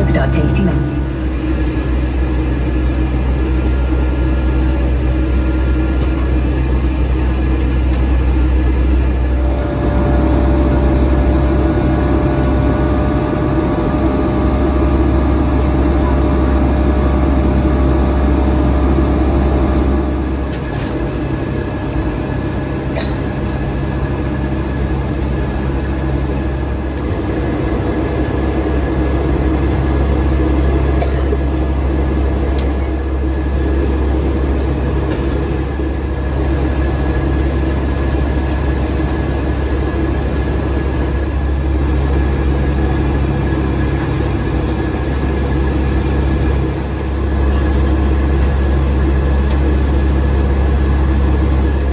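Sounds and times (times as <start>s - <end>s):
airplane cabin drone: 0.0s - 51.9s.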